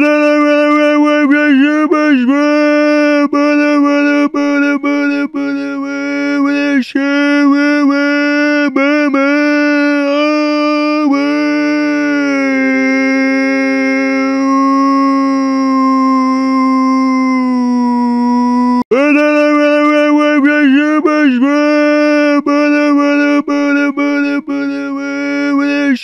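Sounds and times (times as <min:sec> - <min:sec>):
person screaming a long high note: 0:00.0 - 0:25.6.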